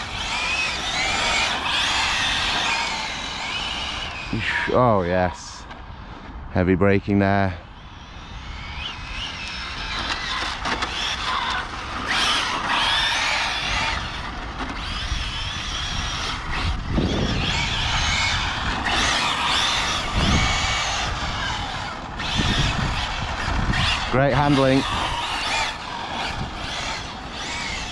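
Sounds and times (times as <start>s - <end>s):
rc car motor whine: 0.0s - 6.4s, 7.1s - 27.9s.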